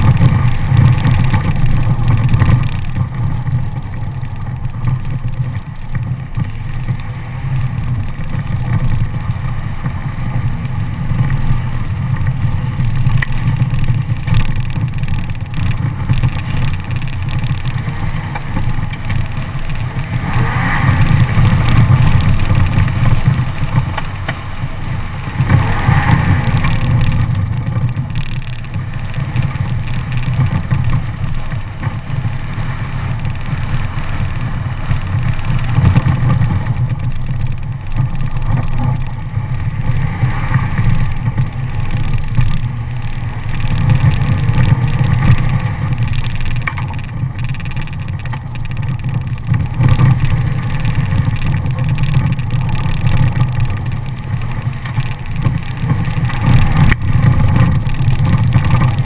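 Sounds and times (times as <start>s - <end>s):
truck engine rumble: 0.0s - 59.0s
tyres on gravel: 0.0s - 59.0s
wind: 0.0s - 59.0s.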